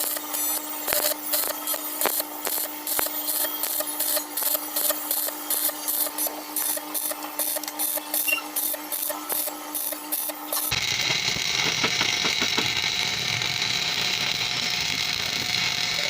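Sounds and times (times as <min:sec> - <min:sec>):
steady electrical hum: 0:00.0 - 0:16.0
welder crackling: 0:00.0 - 0:16.0.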